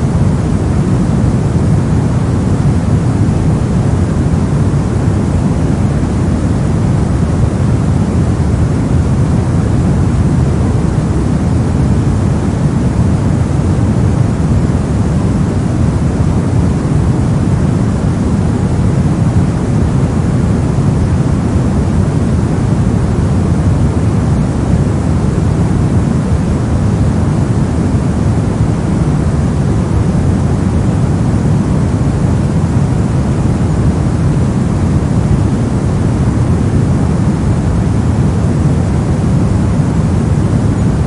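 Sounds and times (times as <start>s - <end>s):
brown noise hiss: 0.0s - 41.0s.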